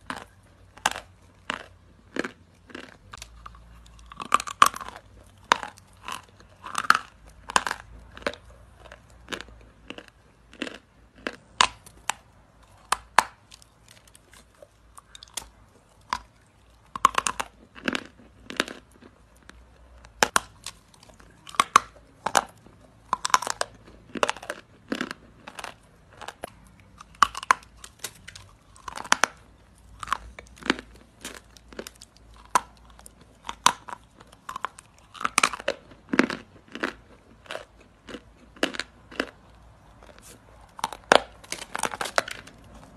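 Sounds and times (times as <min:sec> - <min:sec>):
chalk crunching while chewing: 0:00.0 - 0:42.9.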